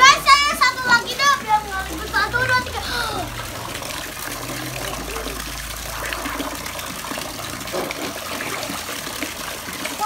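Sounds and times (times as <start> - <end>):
garden hose spraying water: 0.0 - 10.0
water splashing in a pool: 0.0 - 10.0.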